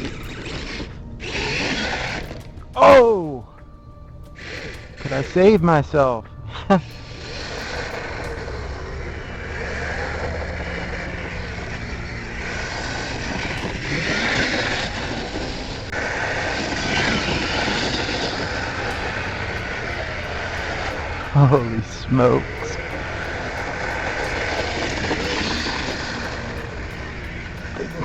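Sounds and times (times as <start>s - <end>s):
drivetrain noise: 0.0s - 28.0s
electric motor whining: 4.2s - 28.0s.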